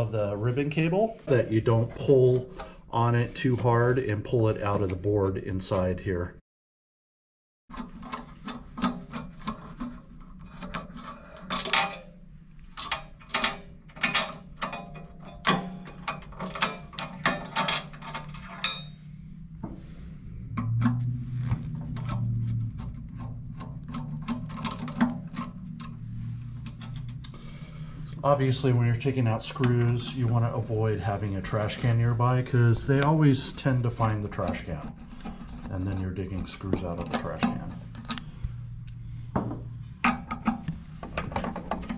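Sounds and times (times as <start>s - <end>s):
low steady hum: 0.0s - 6.4s, 7.7s - 41.9s.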